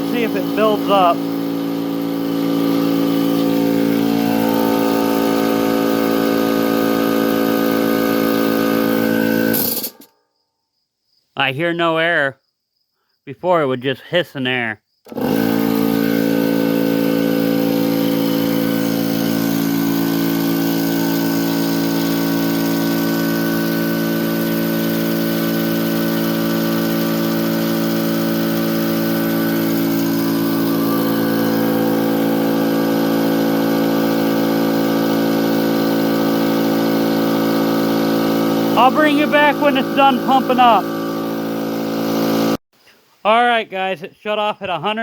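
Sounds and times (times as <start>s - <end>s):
air compressor running: 0.0s - 10.1s, 15.0s - 42.6s.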